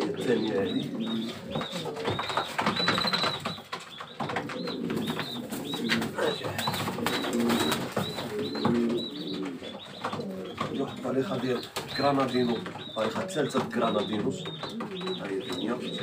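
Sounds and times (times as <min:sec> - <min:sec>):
pigeons cooing: 0:00.0 - 0:16.0
wings flapping and scuffling: 0:00.0 - 0:16.0.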